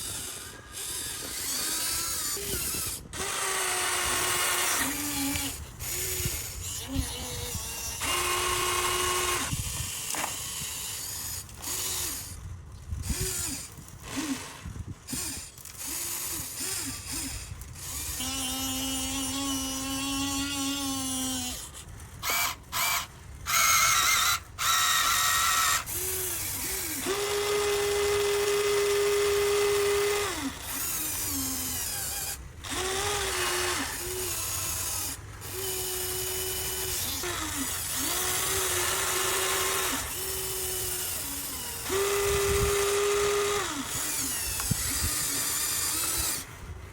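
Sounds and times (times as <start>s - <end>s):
small electric motors whirring: 0.0s - 46.9s.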